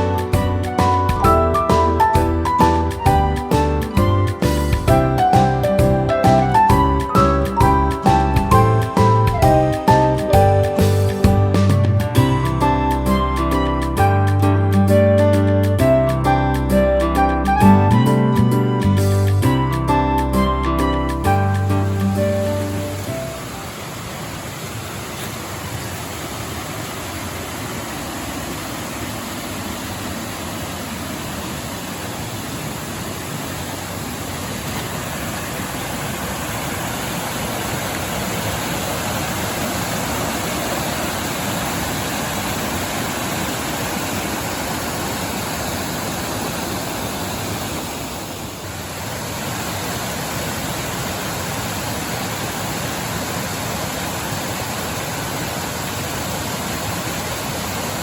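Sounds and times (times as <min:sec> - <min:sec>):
waterfall rushing: 0:00.0 - 0:15.0, 0:19.9 - 0:58.0.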